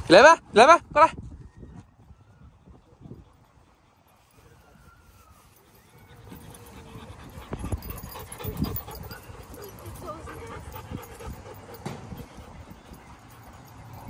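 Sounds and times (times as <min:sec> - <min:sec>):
dogs panting and whimpering: 0:01.9 - 0:14.0.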